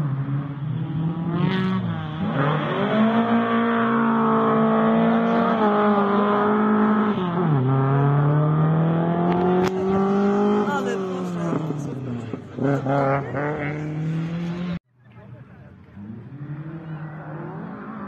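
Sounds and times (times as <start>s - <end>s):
rally car engine revving: 0.0s - 14.8s, 15.4s - 18.0s.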